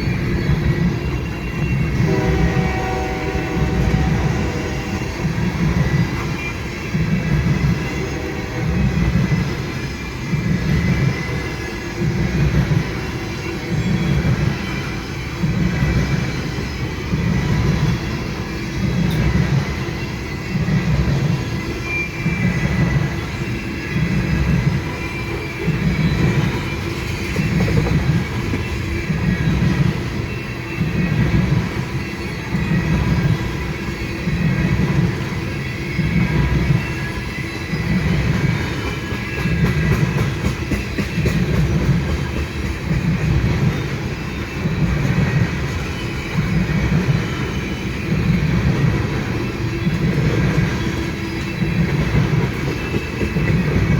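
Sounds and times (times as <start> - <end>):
train cars rumbling past: 0.0 - 53.9.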